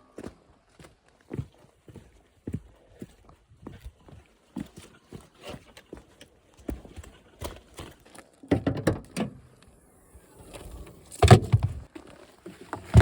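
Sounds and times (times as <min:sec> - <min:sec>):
footsteps crunching and knocking: 0:00.1 - 0:08.8, 0:11.1 - 0:13.0.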